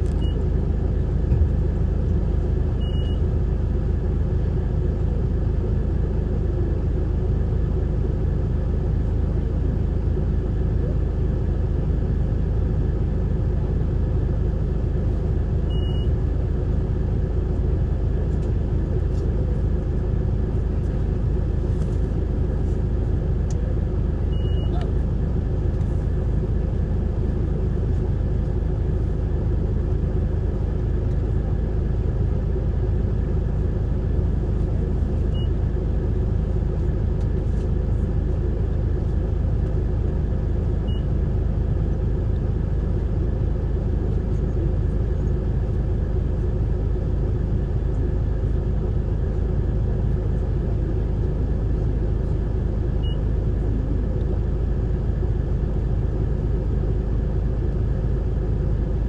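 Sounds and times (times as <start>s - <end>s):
bus diesel engine rumble: 0.0s - 59.0s.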